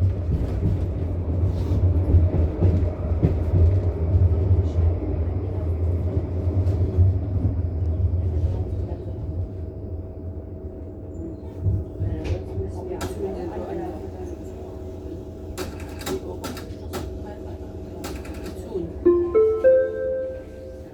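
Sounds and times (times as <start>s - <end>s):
tram rumbling on track: 0.0s - 20.9s.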